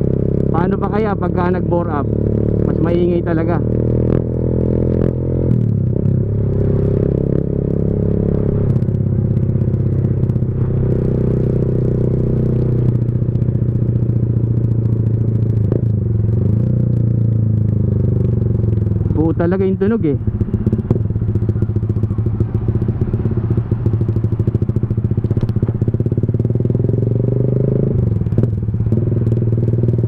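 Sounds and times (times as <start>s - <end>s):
loud motorcycle engine revving: 0.0s - 30.0s.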